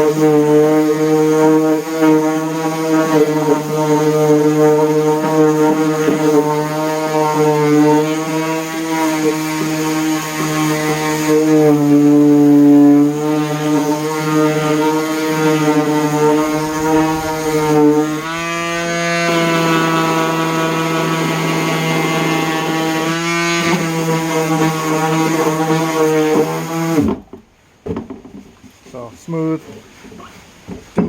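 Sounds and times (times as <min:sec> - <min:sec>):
orbital sander whine: 0:00.0 - 0:27.4.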